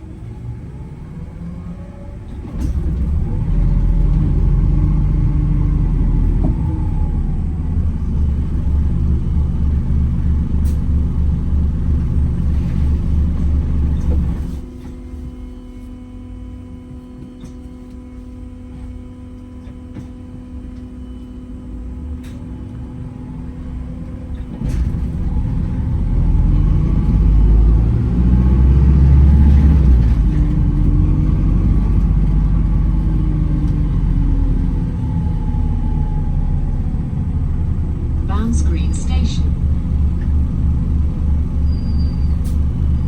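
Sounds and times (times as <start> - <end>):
bus electrical hum: 0.0 - 43.0
bus engine rumble pulling away: 0.0 - 43.0.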